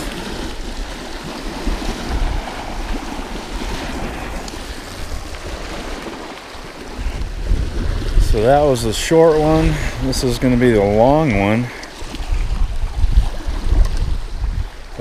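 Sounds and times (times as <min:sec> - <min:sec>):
small waves lapping shore: 0:00.0 - 0:15.0
wind buffeting microphone: 0:00.0 - 0:15.0.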